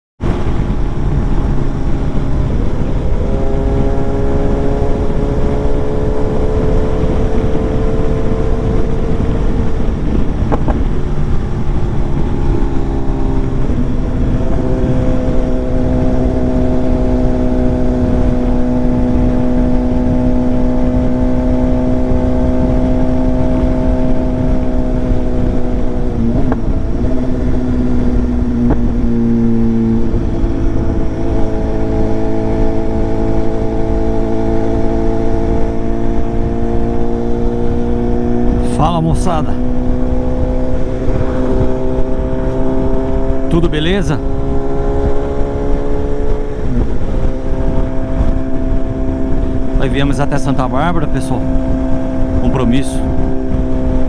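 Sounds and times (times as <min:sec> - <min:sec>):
motorcycle engine revving: 0:00.2 - 0:54.0.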